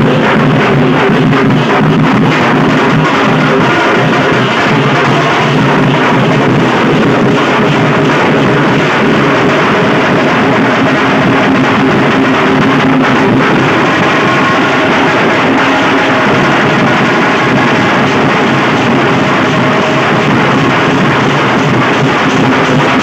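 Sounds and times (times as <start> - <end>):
barrel drums beaten with sticks: 0.0 - 23.0.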